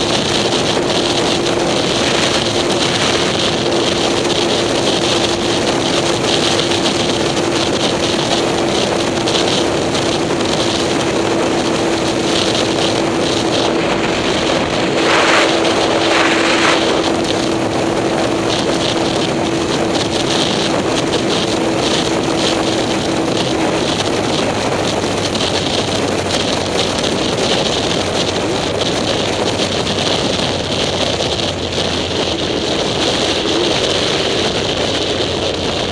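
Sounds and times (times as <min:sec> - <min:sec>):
vehicle engine steady note: 0:00.0 - 0:35.9
wind rushing over microphone: 0:00.0 - 0:35.9.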